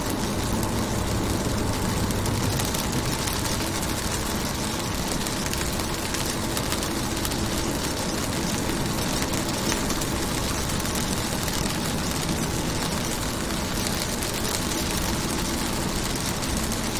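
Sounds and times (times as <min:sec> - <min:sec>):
rain pattering on car window: 0:00.0 - 0:16.9.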